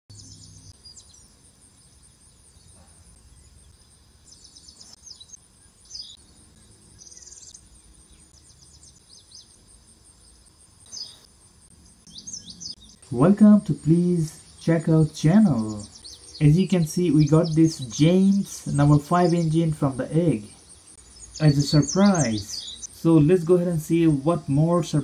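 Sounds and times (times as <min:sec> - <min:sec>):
bird chirps: 0:00.1 - 0:25.0
high insect trill: 0:00.1 - 0:25.0.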